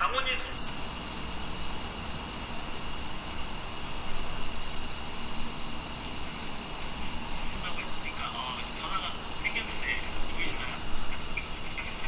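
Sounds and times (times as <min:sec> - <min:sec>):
background hiss: 0:00.0 - 0:12.0
night insects chirring: 0:00.0 - 0:12.0.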